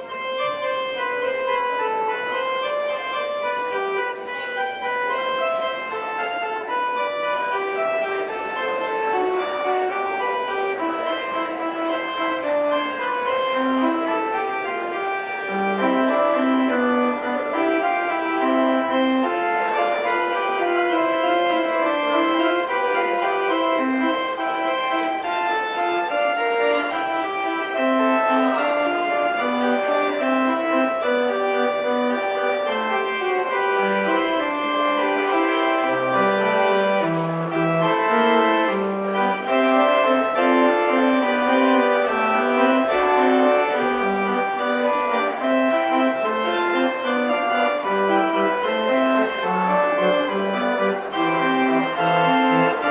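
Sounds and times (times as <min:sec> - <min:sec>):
organ music: 0:00.0 - 0:52.9.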